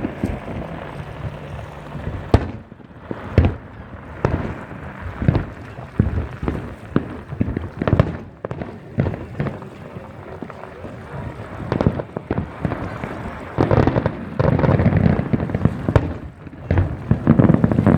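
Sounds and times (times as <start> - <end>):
fireworks booming and cracking: 0.0 - 17.9.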